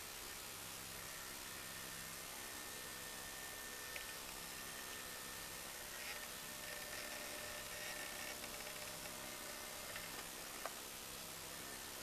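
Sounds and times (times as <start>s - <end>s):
steady hiss: 0.0s - 12.0s
toy truck electric motor whine: 1.0s - 10.7s.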